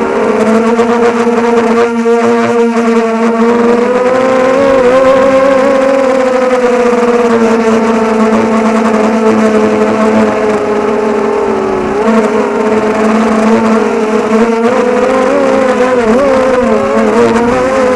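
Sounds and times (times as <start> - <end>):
quadcopter motors whining: 0.0 - 17.9.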